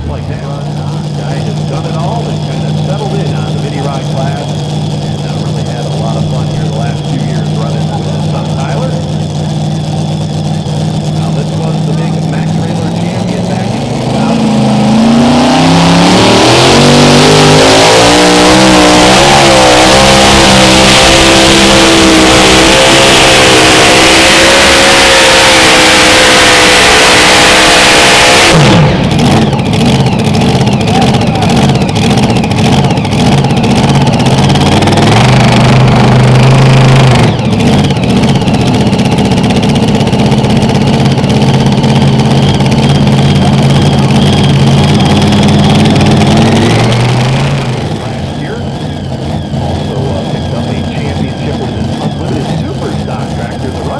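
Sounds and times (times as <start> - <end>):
engine running rough: 0.0 - 53.9
tractor engine at full throttle: 0.0 - 53.9.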